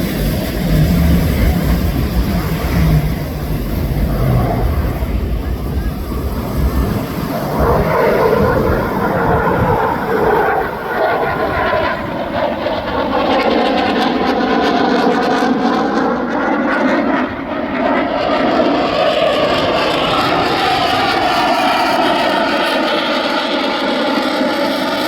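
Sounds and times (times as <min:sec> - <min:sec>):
loud jet noise: 0:00.0 - 0:25.0.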